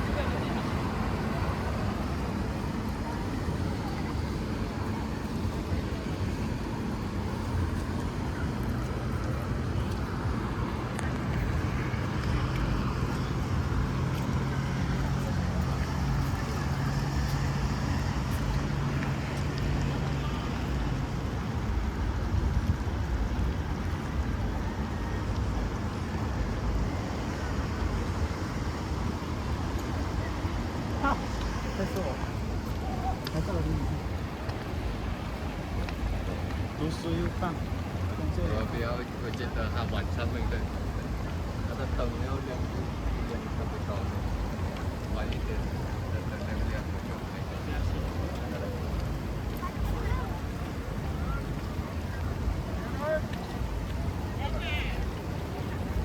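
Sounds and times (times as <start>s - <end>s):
low city rumble and hiss: 0.0s - 56.0s
low engine hum: 0.0s - 56.0s.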